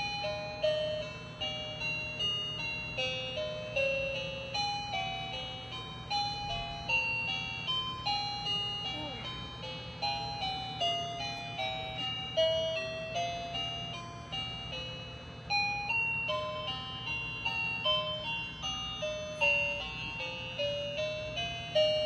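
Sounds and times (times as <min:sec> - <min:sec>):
toy piano electronic tune: 0:00.0 - 0:22.0.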